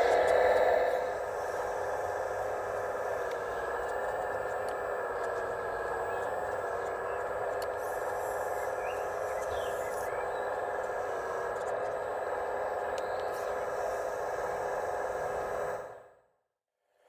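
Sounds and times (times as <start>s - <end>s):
hydraulic pump whine: 0.0s - 16.1s.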